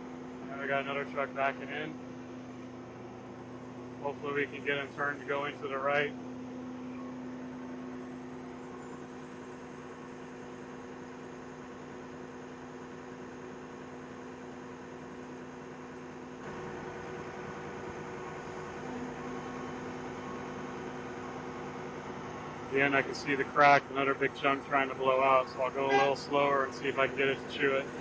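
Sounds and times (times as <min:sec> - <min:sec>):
milling machine droning hum: 0:00.0 - 0:28.0.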